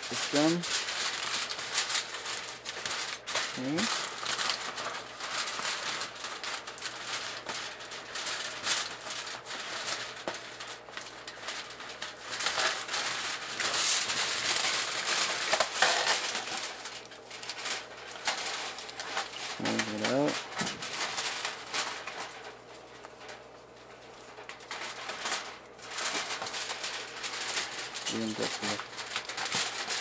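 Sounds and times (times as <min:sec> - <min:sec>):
aluminum foil crinkling: 0:00.0 - 0:30.0.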